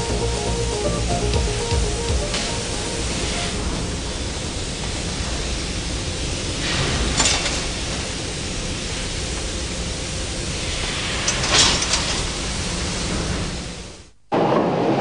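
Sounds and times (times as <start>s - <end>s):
steel rolling mill running: 0.0s - 15.0s.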